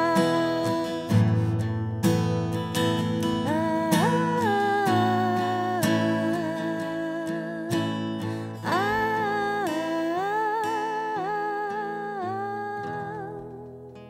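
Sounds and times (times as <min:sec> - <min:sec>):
acoustic guitar chords: 0:00.0 - 0:14.0
woman singing: 0:00.0 - 0:14.0.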